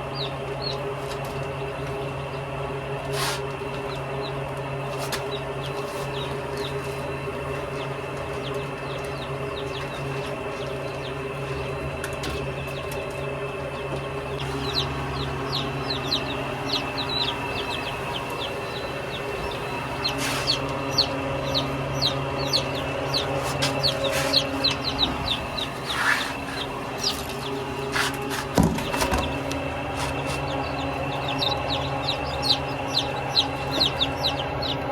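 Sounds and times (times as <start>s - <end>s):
chickens peeping: 0.0s - 34.9s
steady low hum: 0.0s - 34.9s.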